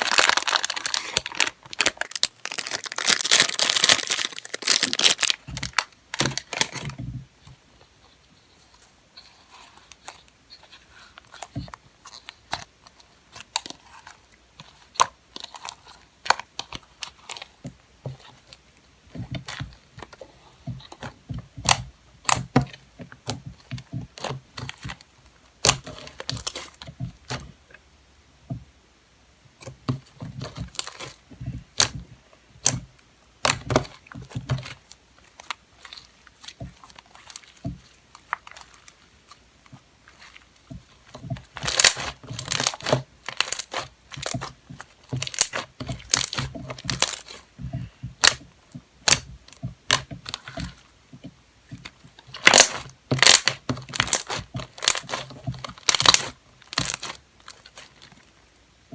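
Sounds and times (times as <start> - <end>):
hands squishing slime: 0.0 - 8.0, 8.8 - 27.8, 29.6 - 58.4.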